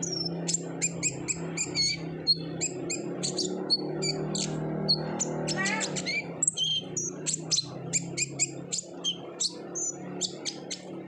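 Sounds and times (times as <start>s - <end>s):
bird chirping and twittering: 0.0s - 11.0s
steady low hum: 0.0s - 11.0s.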